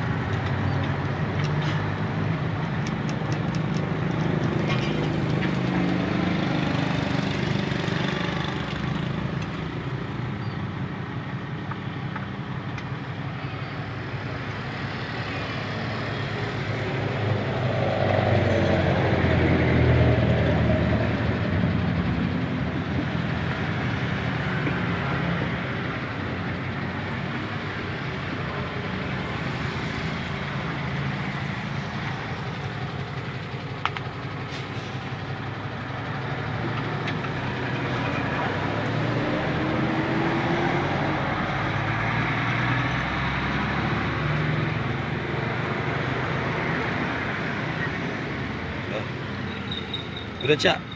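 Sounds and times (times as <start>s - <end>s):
heavy vehicle engine running: 0.0s - 50.9s.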